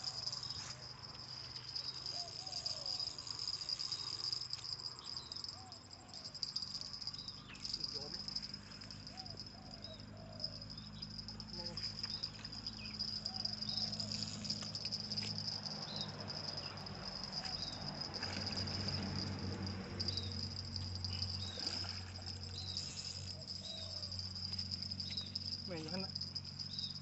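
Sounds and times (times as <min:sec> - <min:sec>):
insects trilling: 0:00.0 - 0:27.0
low steady hum: 0:00.0 - 0:27.0
short insect chirps: 0:00.0 - 0:27.0.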